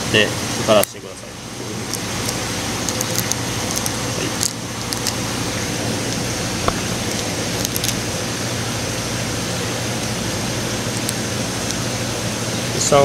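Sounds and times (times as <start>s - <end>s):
room hiss with low hum: 0.0s - 13.0s.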